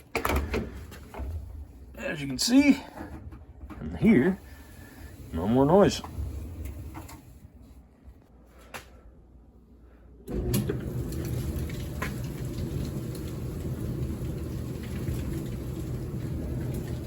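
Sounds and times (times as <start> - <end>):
dryer drum rumbling: 0.0 - 7.8, 10.3 - 17.0.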